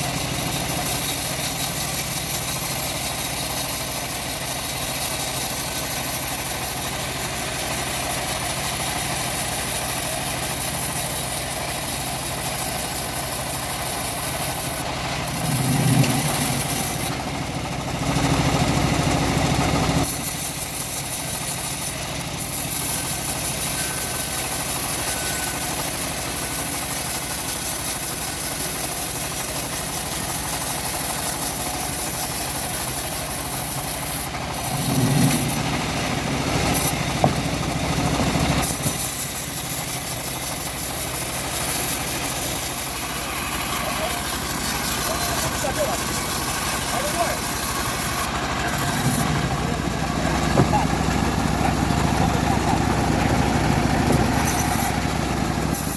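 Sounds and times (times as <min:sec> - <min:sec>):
bandsaw mill sawing a log: 0:00.0 - 0:55.9.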